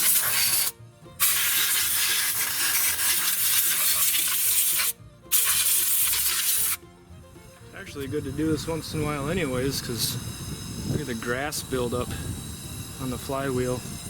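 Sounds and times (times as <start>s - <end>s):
compressed air hissing from nozzle: 0.0s - 6.8s, 8.2s - 14.0s.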